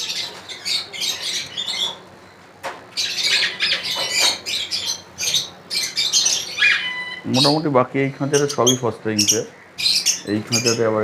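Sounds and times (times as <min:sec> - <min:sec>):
lovebirds squawking and chirping: 0:00.0 - 0:11.0.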